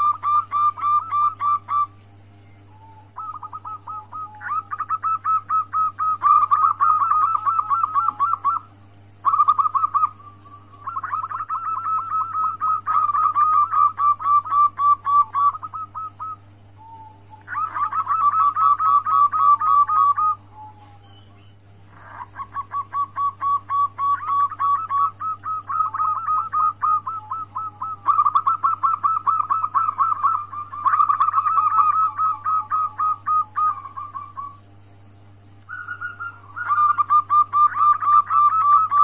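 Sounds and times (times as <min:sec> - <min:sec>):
dove cooing: 0:00.0 - 0:34.8, 0:35.7 - 0:39.0.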